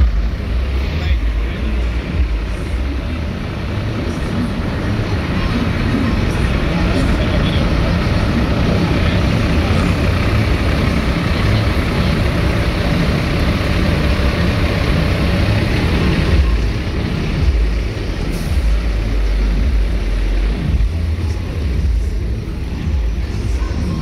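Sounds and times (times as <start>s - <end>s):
truck engines idling: 0.0s - 24.0s.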